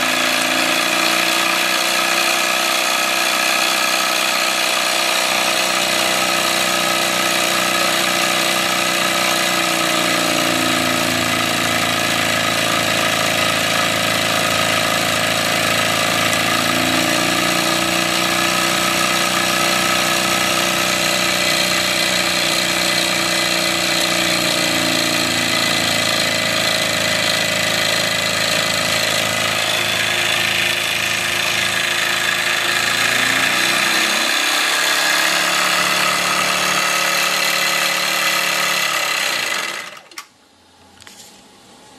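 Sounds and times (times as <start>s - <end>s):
generator whine: 0.0s - 41.0s.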